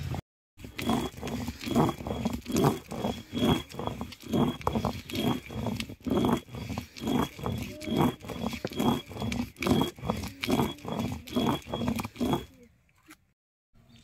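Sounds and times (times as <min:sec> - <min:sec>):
stone roller grating on stone slab: 0:00.0 - 0:12.6.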